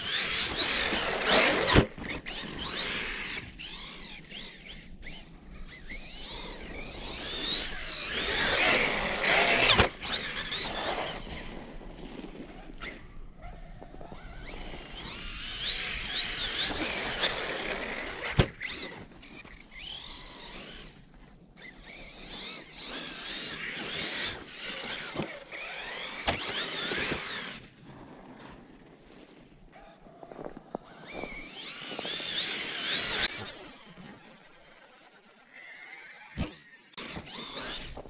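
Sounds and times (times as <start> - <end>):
rc truck motor whining: 0.0 - 38.0.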